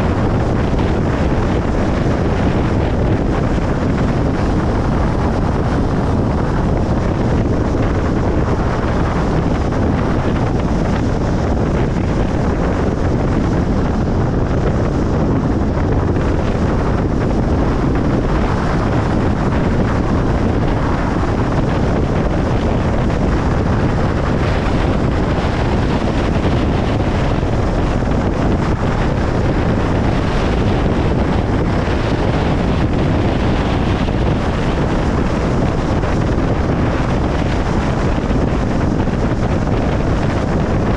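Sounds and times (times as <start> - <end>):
tyre and wind road noise: 0.0 - 40.9.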